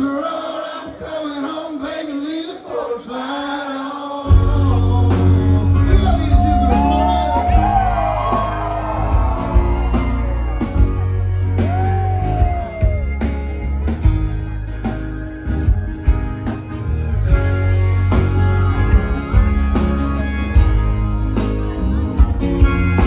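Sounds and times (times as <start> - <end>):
bass and drums: 4.3 - 23.0
slide guitar line: 4.3 - 23.0.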